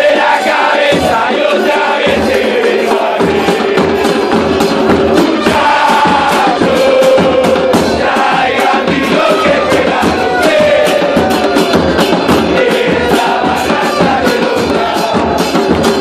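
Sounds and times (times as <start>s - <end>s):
trumpets: 0.0s - 15.6s
bass drums beating: 0.0s - 16.0s
crowd chanting in unison: 0.0s - 16.0s.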